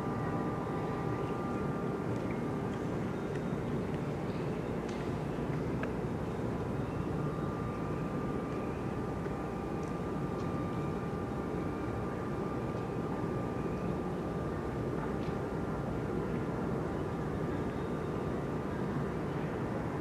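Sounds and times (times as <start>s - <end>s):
faint thin whine: 0.0s - 20.0s
low rumbling dockside ambience: 0.0s - 20.0s.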